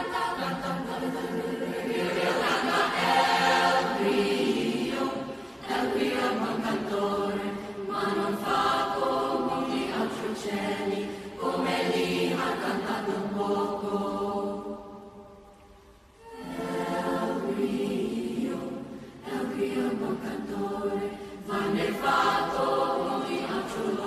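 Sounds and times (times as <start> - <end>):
children's choir singing: 0.0 - 15.2, 16.2 - 24.0.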